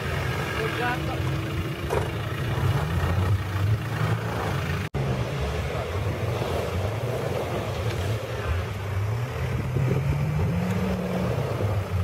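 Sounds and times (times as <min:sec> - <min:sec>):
jeep engine pulling: 0:00.0 - 0:12.0.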